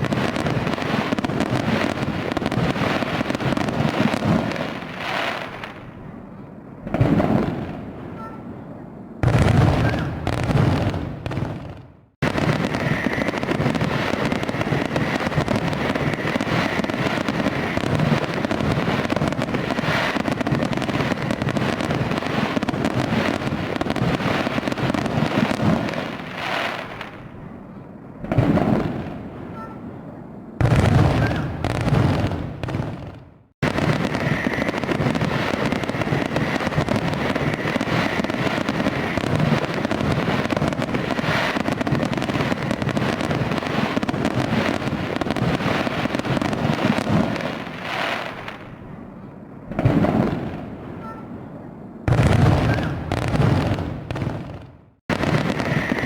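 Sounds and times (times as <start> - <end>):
fireworks crackling: 0.0 - 6.0, 6.8 - 8.3, 9.2 - 27.4, 28.2 - 29.8, 30.6 - 48.9, 49.7 - 51.2, 52.1 - 56.0
fireworks booms: 0.0 - 56.0.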